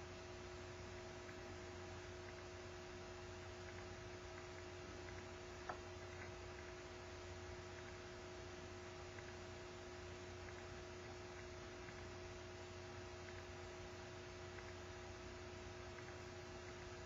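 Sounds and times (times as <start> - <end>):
electrical hum: 0.0 - 17.0
faint small ticks: 1.0 - 17.0.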